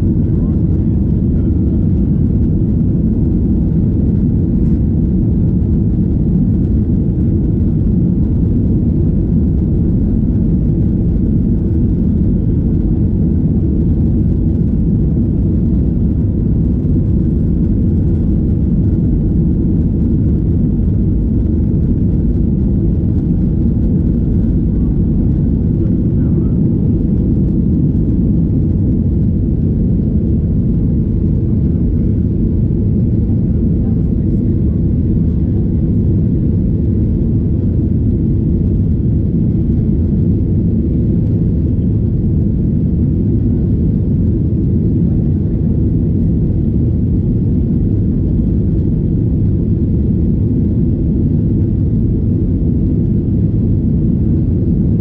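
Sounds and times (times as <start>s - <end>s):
jet engines and runway roar: 0.0s - 55.0s.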